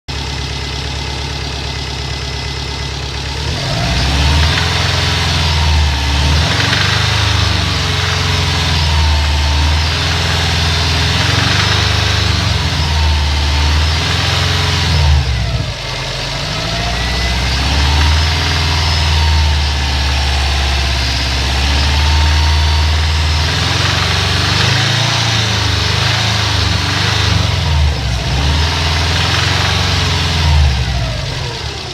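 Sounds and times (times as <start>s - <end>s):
car engine idling and revving: 0.1s - 31.9s.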